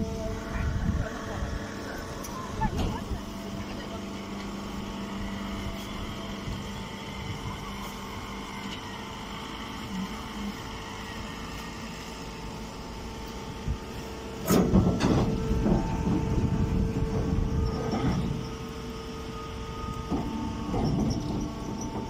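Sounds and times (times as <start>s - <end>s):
hay baler power unit humming: 0.0s - 22.0s.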